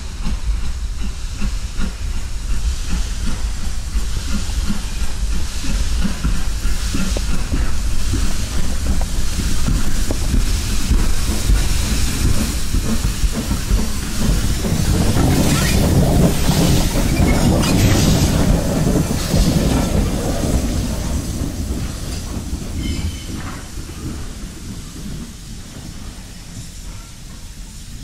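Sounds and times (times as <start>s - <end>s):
steam hissing: 0.0s - 28.0s
train wheels rumbling on track: 0.0s - 28.0s.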